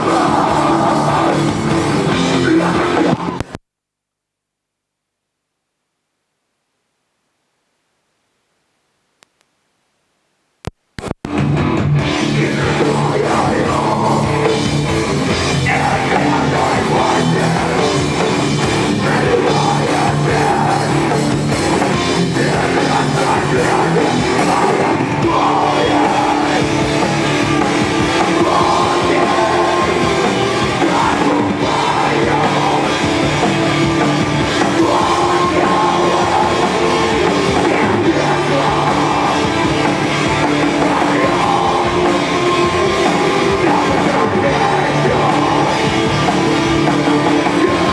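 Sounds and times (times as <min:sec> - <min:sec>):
rock band playing live: 0:00.0 - 0:03.4, 0:11.3 - 0:47.9.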